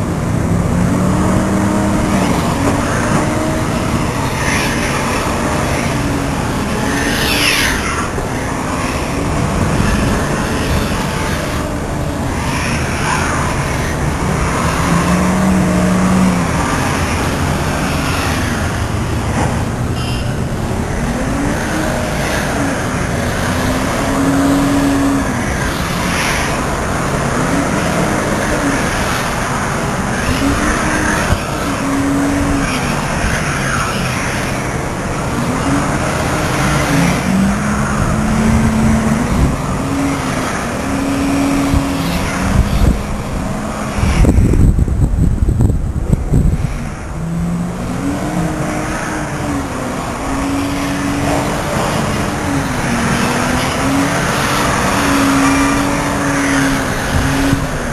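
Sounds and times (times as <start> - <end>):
car engines revving: 0.0 - 57.9
traffic rush: 0.0 - 57.9.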